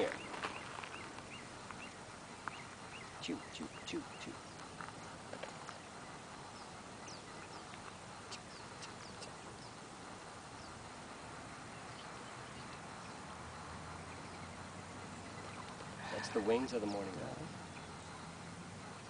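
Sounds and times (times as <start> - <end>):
birds chirping: 0.0 - 19.0
steady outdoor hiss: 0.0 - 19.0.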